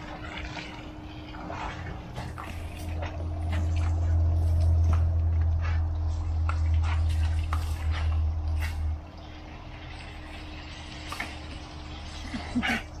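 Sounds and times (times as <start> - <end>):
hose water spray splashing: 0.0 - 13.0.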